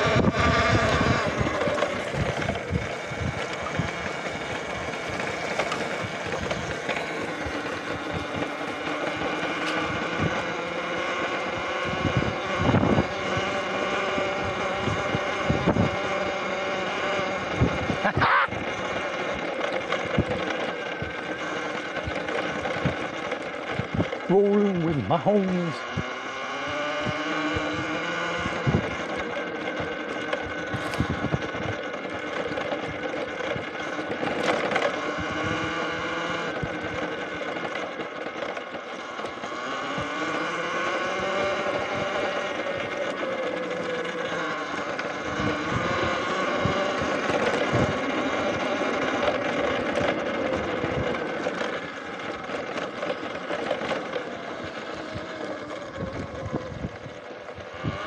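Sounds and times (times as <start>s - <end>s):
electric dirt bike motor whining: 0.0s - 58.0s.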